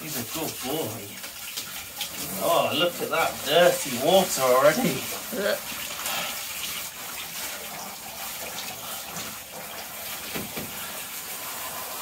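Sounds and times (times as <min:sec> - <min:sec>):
shower water spraying: 0:00.0 - 0:12.0
water splashing into bathwater: 0:00.0 - 0:12.0.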